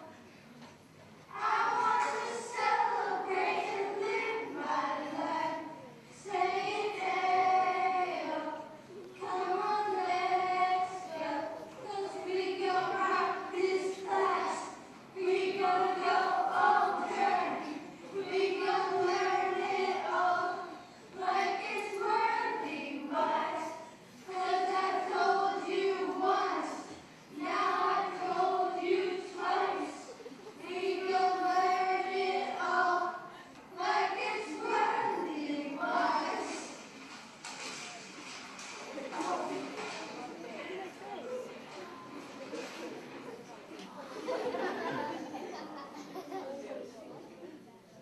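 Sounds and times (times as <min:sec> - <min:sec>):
children singing unaccompanied: 0:01.3 - 0:37.1, 0:38.8 - 0:43.0.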